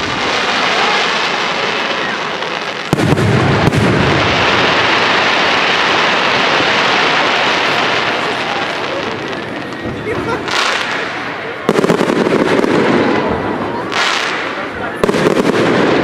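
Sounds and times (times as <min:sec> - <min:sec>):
firework bangs: 0:00.0 - 0:16.0
firework hiss: 0:00.0 - 0:16.0.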